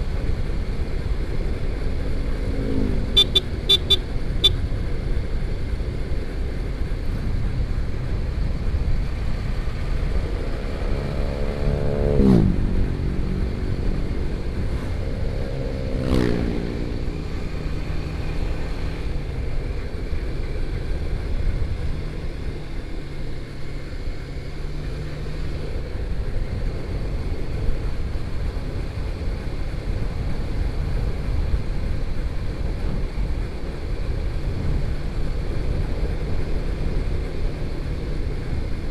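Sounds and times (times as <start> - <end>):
motorcycle engine and road noise: 0.0 - 38.9
vehicles passing by: 0.0 - 38.9.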